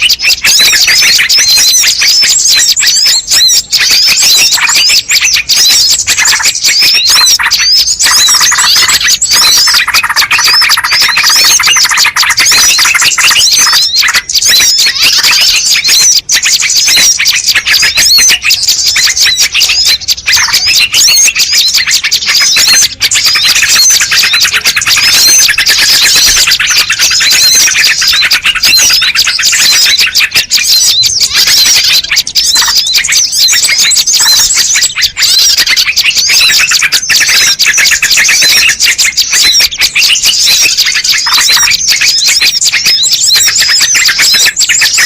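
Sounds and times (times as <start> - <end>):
small birds chirping and twittering: 0.0 - 45.0.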